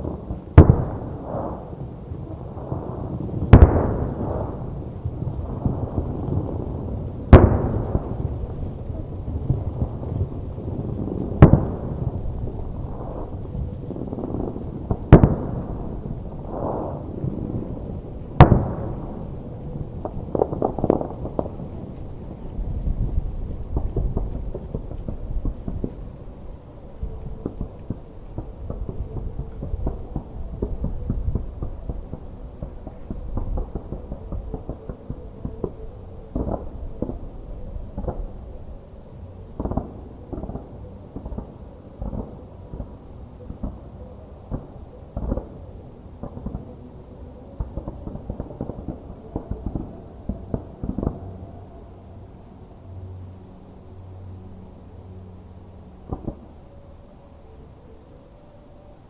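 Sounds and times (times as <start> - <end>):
fireworks bursting: 0.0 - 26.5, 27.4 - 38.5, 39.5 - 46.8, 47.5 - 52.1.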